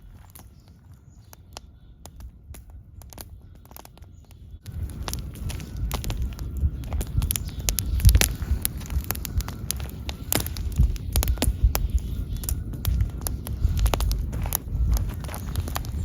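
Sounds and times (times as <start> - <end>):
low fluttering rumble: 0.0 - 16.0
wood fire crackling: 0.0 - 16.0.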